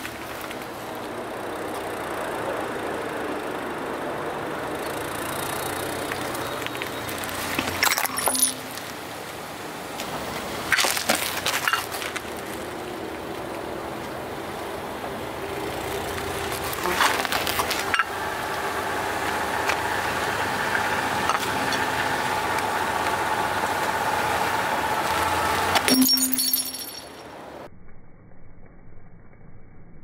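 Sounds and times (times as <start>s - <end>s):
car engine running low: 0.0s - 25.9s.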